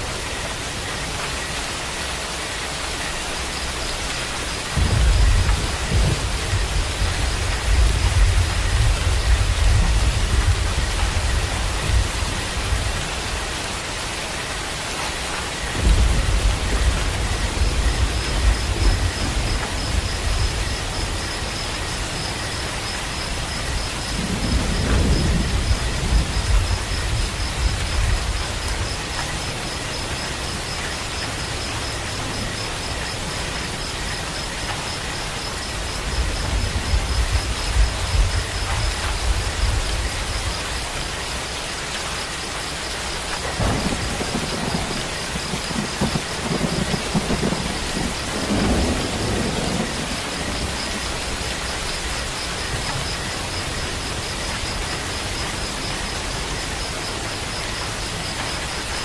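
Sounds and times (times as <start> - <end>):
steady rain falling: 0.0 - 59.0
thunder rumbling: 2.4 - 41.5, 43.0 - 59.0.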